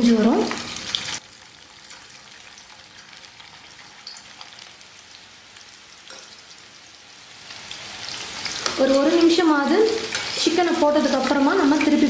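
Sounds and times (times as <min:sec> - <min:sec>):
food frying in hot oil: 0:00.0 - 0:12.0
oil crackling and popping: 0:00.3 - 0:06.7, 0:07.4 - 0:12.0.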